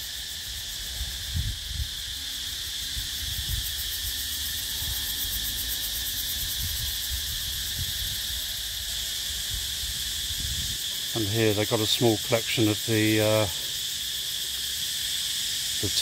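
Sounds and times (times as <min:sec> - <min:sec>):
insect chorus trilling: 0:00.0 - 0:16.0.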